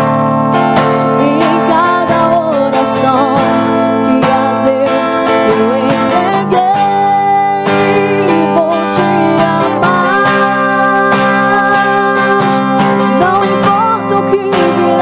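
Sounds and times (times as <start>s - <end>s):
acoustic guitar strumming: 0.0s - 15.0s
woman singing: 0.8s - 15.0s.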